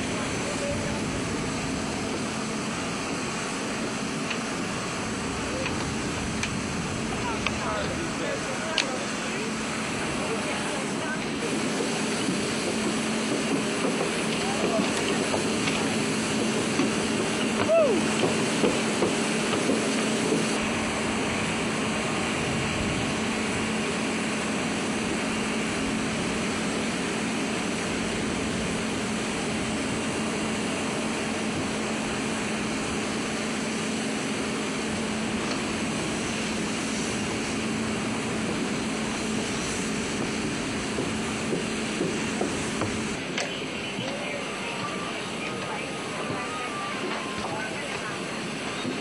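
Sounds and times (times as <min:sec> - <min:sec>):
aircraft engine rush: 0:00.0 - 0:49.0.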